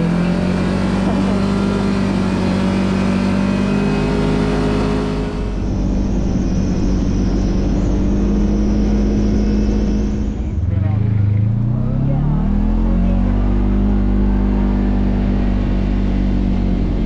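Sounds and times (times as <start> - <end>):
utility vehicle engine cruising: 0.0 - 17.0.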